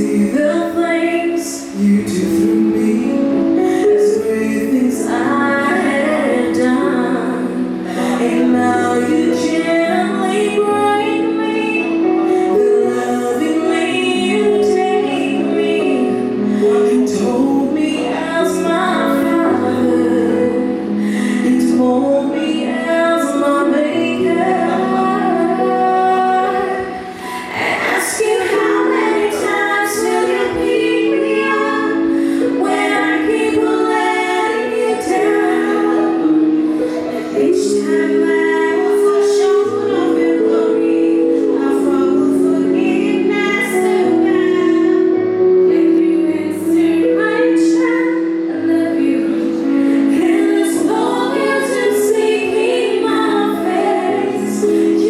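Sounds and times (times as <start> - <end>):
vocal group singing in harmony: 0.0 - 55.0.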